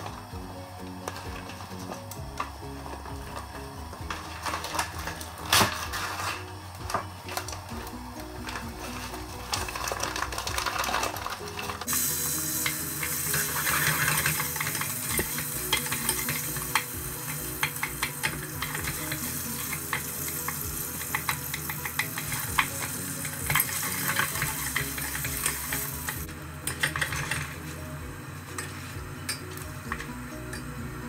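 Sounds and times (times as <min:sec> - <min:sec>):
butter sizzling in pot: 0:00.0 - 0:31.0
wooden sticks scraping kernels in pot: 0:01.0 - 0:06.5, 0:07.3 - 0:27.8.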